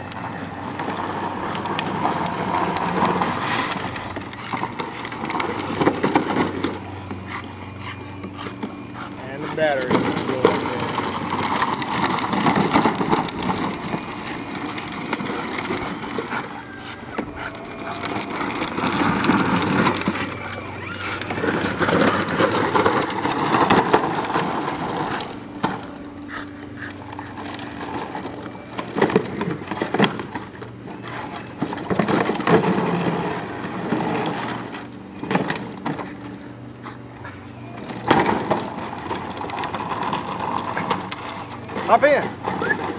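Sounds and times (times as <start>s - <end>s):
plastic toy wheels rattling on asphalt: 0.0s - 42.9s.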